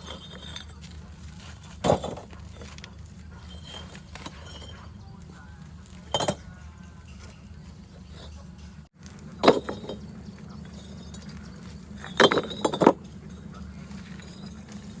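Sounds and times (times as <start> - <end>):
hard objects clinking together: 0.0 - 15.0
steady low hum: 0.0 - 15.0.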